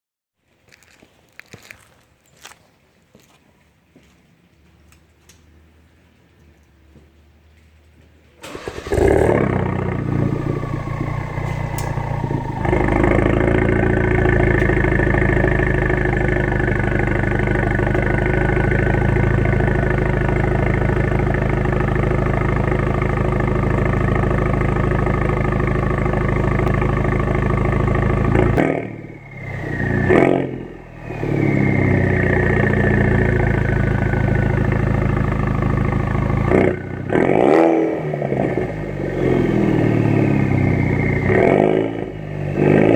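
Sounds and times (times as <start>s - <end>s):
car engine starting and idling: 8.4s - 42.9s.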